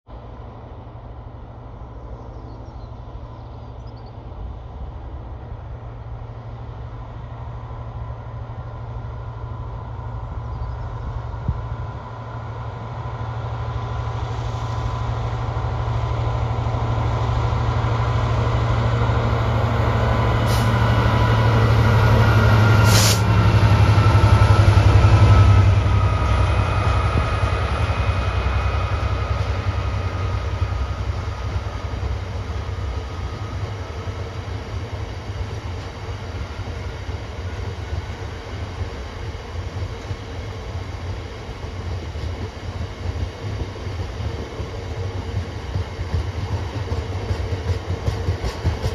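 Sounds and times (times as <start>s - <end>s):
diesel locomotive engine: 0.1s - 48.9s.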